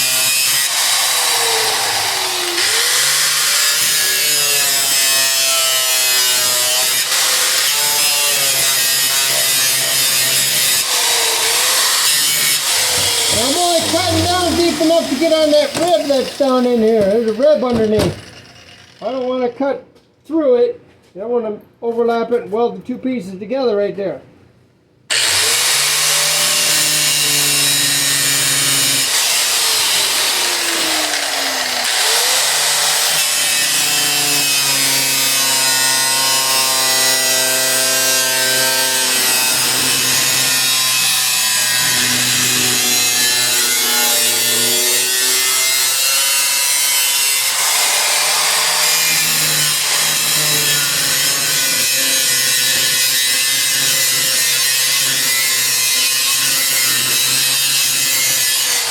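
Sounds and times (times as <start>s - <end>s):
angle grinder cutting metal: 0.0s - 19.3s, 25.1s - 58.9s.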